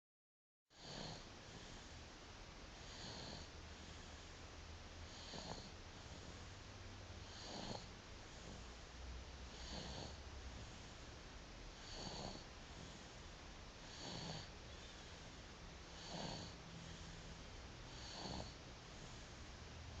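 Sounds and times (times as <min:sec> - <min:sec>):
baby snoring softly: 0:00.7 - 0:02.0, 0:02.7 - 0:04.3, 0:05.0 - 0:06.6, 0:07.2 - 0:19.4.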